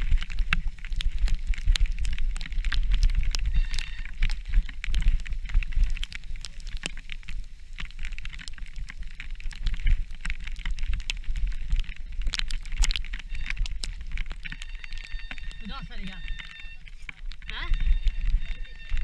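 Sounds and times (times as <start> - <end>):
bike clicks and rattles: 0.0 - 15.6
wind and tyres rumbling: 0.0 - 19.0.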